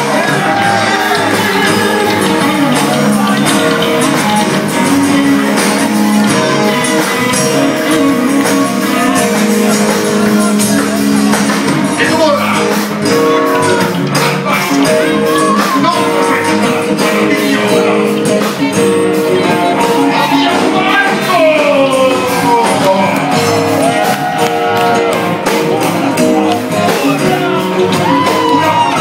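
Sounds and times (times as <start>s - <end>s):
live rock band playing: 0.0s - 29.0s
person singing: 0.0s - 29.0s.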